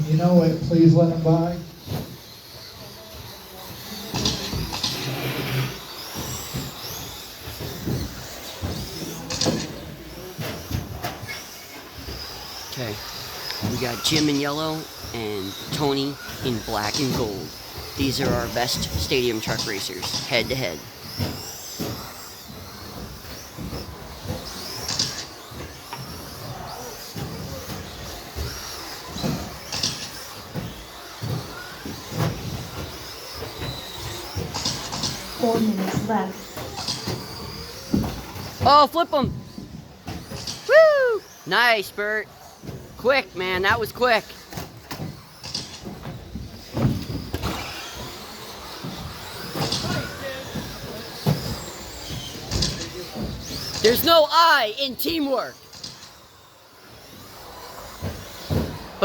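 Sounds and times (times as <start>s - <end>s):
rc truck motors whining: 0.0s - 59.0s
tyre and track noise: 0.0s - 59.0s.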